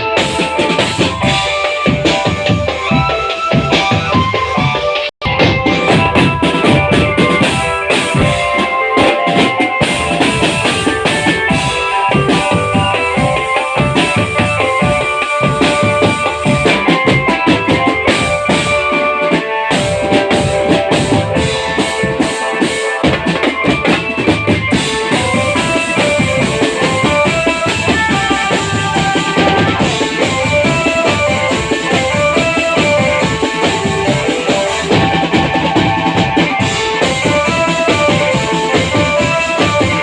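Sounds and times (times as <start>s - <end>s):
melody of held notes: 0.0s - 40.0s
snare and bass drumming: 0.0s - 40.0s.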